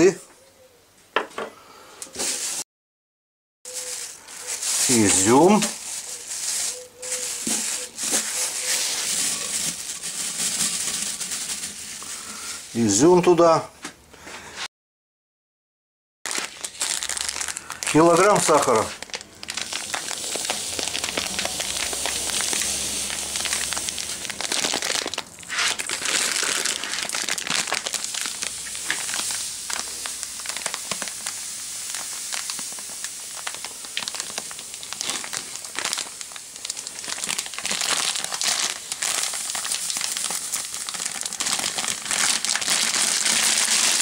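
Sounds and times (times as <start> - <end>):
plastic bag crinkling: 2.1 - 2.6, 3.7 - 13.2, 16.3 - 44.0
sugar pouring into glass jar: 3.7 - 12.4, 16.4 - 44.0.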